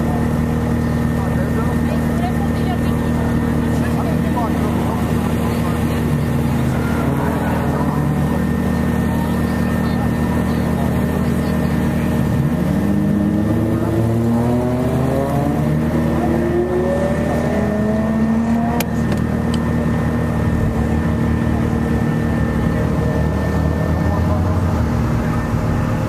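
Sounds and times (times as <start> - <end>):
car accelerating hard: 0.0 - 26.0
car engine idling: 0.0 - 26.0.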